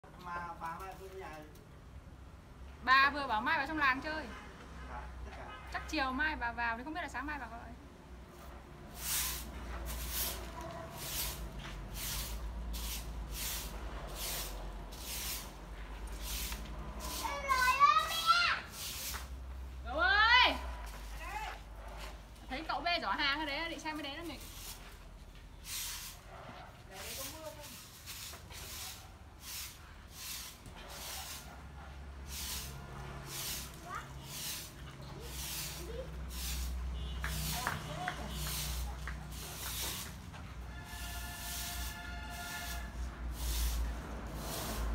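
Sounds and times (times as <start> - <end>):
broom sweeping leaves: 8.3 - 44.9.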